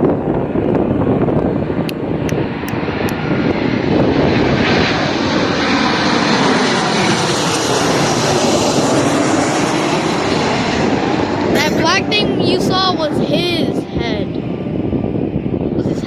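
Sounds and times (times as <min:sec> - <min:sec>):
jet airliner engines roaring: 0:00.0 - 0:16.0.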